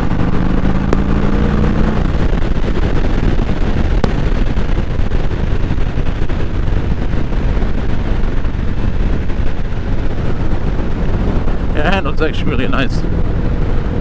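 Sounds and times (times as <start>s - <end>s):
motorcycle engine cruising: 0.0s - 14.0s
wind rushing over microphone: 0.0s - 14.0s.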